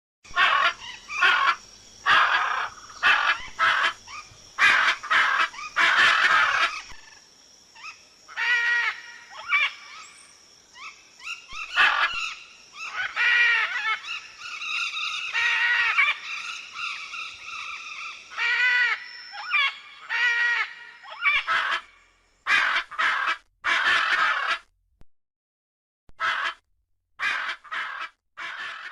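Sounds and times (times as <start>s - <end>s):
macaws screeching: 0.3s - 7.2s, 7.8s - 10.2s, 10.8s - 24.7s, 26.2s - 26.6s, 27.2s - 28.9s.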